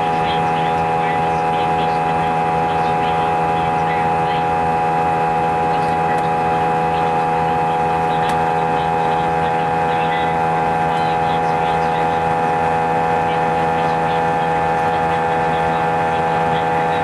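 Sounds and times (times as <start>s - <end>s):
faint intercom announcement: 0.0s - 17.0s
jet cabin engine drone: 0.0s - 17.0s.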